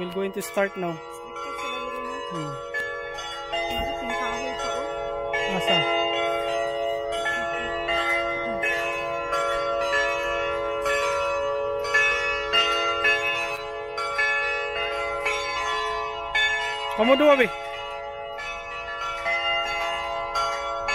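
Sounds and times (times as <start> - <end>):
church bells ringing: 0.0 - 20.9.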